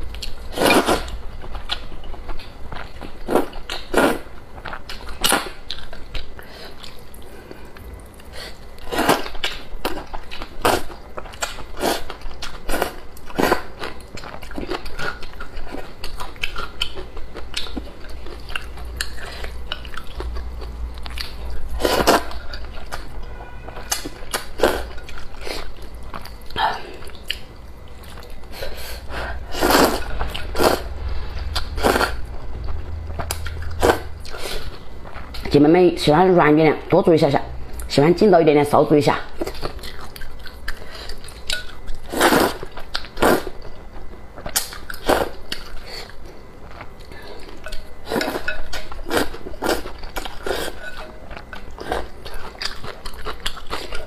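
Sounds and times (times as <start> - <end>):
chewing: 0.1 - 23.1, 23.8 - 30.8, 39.4 - 54.0.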